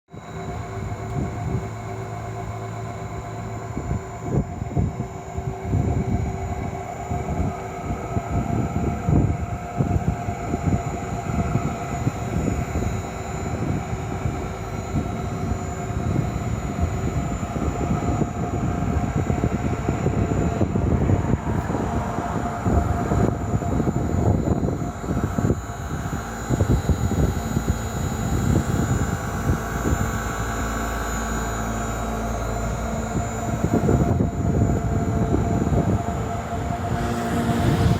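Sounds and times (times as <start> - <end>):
electric fan motor whining: 0.1 - 37.9.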